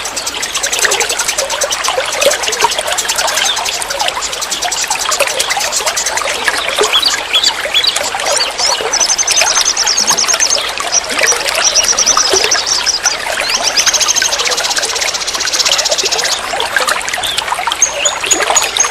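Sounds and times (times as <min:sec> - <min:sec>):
stream trickling over stones: 0:00.0 - 0:18.9.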